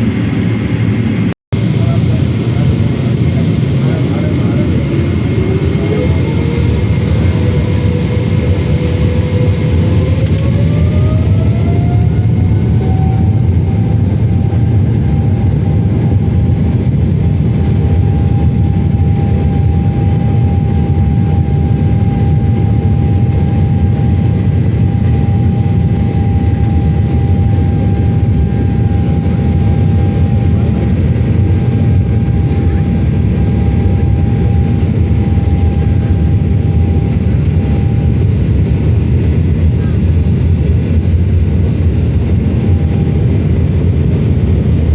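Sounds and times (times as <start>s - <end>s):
jet engines spooling up: 0.0s - 44.9s.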